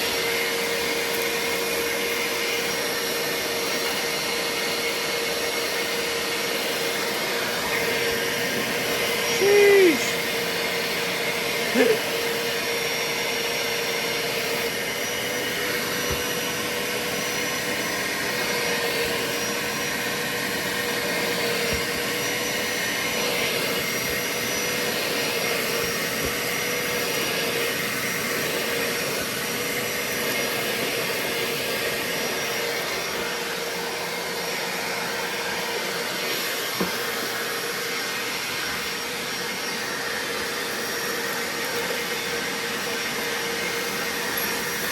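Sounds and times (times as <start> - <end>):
shop vacuum running: 0.0 - 44.9.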